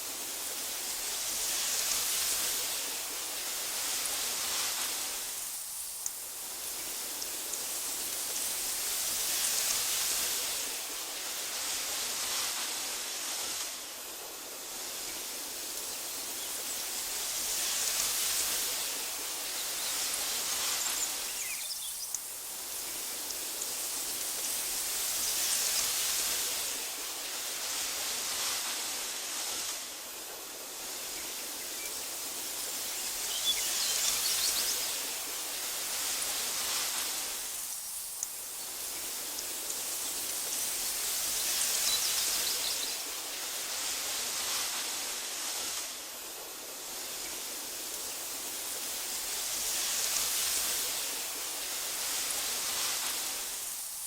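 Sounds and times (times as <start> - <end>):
wind rustling through grass: 0.0 - 54.0.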